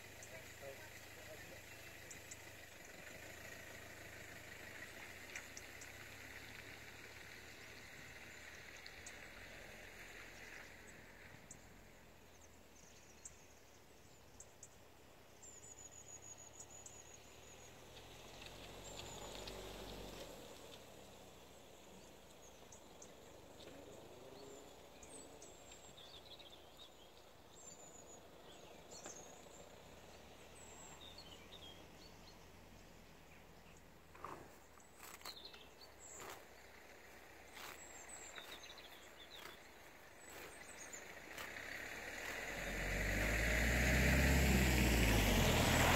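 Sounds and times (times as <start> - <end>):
small birds chirping: 0.0 - 43.4.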